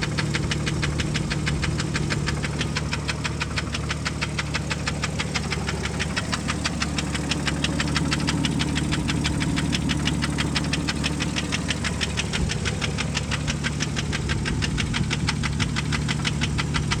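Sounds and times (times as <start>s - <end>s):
engine running with rapid knock: 0.0s - 17.0s.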